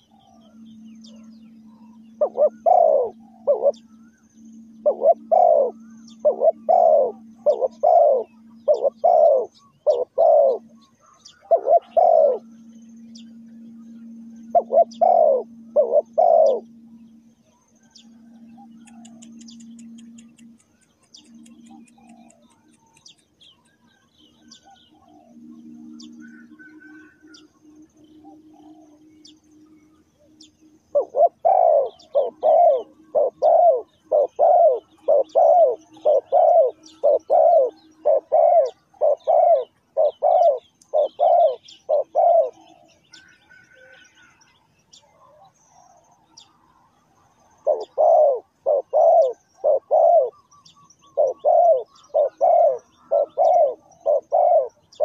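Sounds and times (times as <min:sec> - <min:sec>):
dove cooing: 0:00.0 - 0:29.3, 0:30.9 - 0:44.4, 0:47.2 - 0:55.0
faint low hum: 0:00.0 - 0:55.0
small birds chirping: 0:00.0 - 0:55.0.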